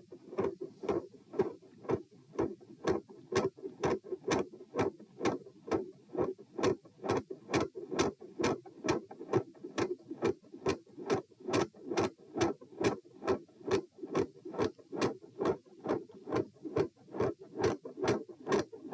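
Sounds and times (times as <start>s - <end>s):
heartbeat through stethoscope: 0.0s - 18.9s.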